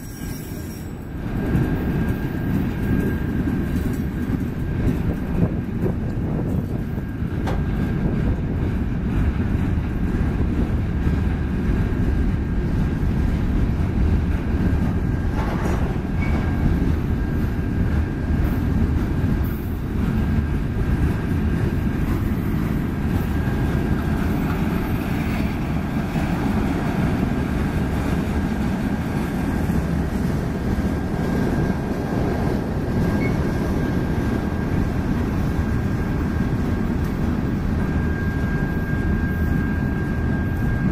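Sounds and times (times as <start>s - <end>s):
freight cars rumbling on rails: 0.0s - 40.9s.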